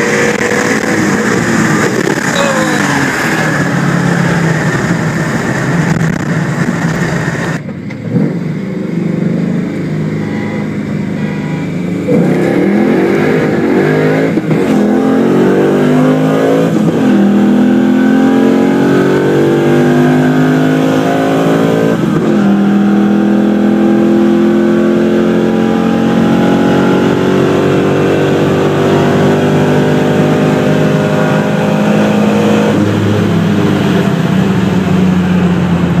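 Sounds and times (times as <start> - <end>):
car engine at full throttle: 0.0 - 36.0.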